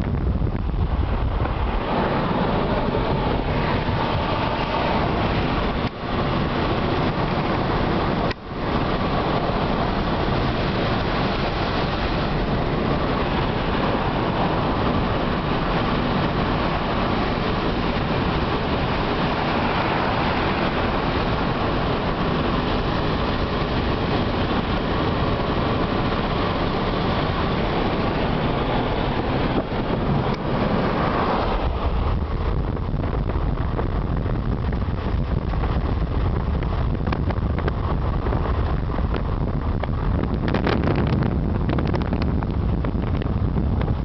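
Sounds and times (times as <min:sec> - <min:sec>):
car engine at cruising speed: 0:00.0 - 0:44.0.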